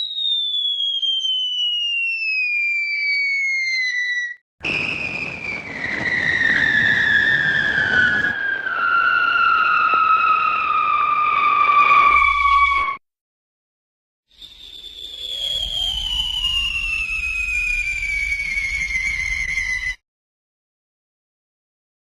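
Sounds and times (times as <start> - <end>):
falling whistle sliding down: 0.0 - 13.0, 14.3 - 20.0.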